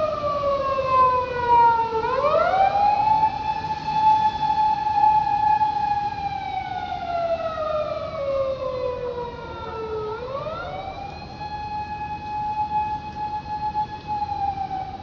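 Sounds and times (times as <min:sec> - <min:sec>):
emergency vehicle siren wailing: 0:00.0 - 0:15.0.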